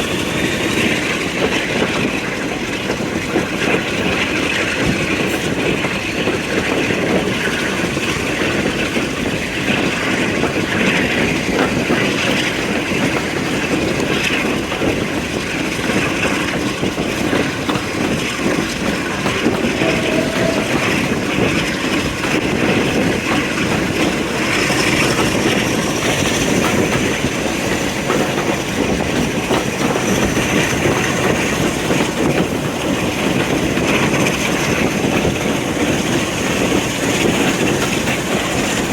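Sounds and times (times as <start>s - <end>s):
train wheels rumbling and rattling: 0.0s - 38.9s.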